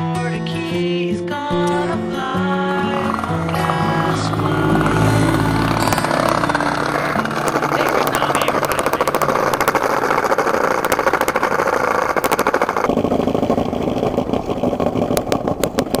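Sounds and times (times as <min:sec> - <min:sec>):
skateboard wheels rolling on bricks: 0:00.7 - 0:16.0.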